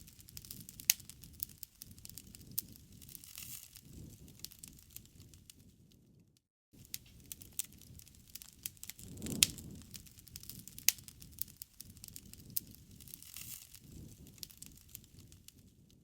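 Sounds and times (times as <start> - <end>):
burning wood popping: 0.0 - 6.0, 6.8 - 16.0
campfire crackling: 0.0 - 6.1, 6.8 - 16.0.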